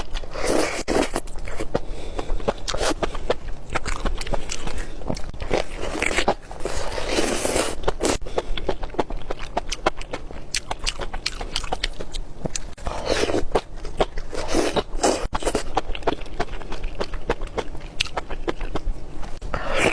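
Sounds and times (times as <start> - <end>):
close-miked chewing and crunching: 0.0 - 19.9.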